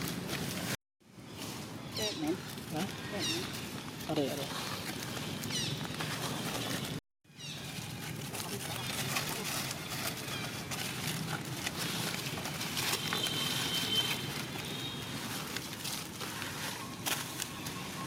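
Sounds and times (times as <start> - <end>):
dry leaves crackling and rustling: 0.0 - 18.0
outdoor background noise: 0.0 - 18.0.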